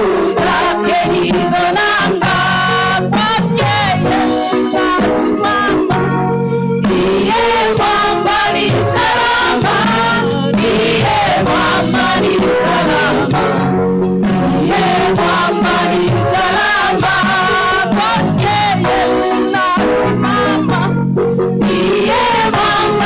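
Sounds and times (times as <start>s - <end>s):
choir singing: 0.0s - 23.0s
instrumental backing: 0.0s - 23.0s
percussion beat: 0.0s - 23.0s.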